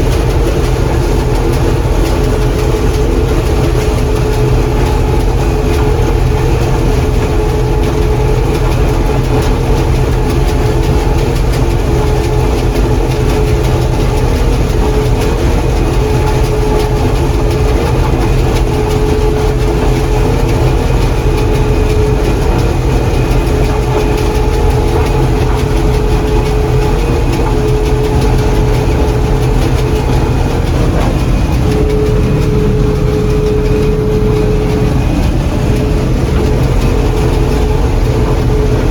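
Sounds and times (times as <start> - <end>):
combine harvester engine drone: 0.0 - 38.9
steady machine whine: 0.0 - 38.9.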